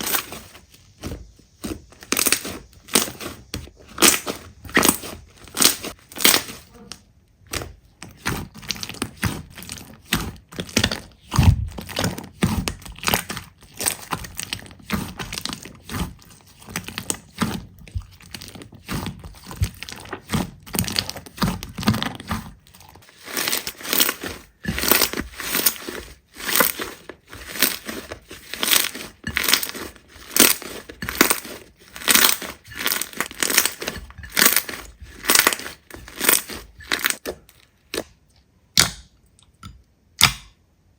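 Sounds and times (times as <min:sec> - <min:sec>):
slime popping and crackling: 0:00.0 - 0:06.9, 0:07.5 - 0:38.1
slime squelching: 0:00.0 - 0:39.6.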